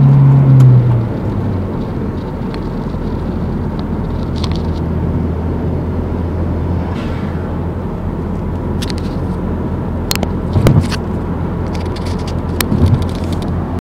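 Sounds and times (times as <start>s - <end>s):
car engine droning: 0.0s - 13.3s.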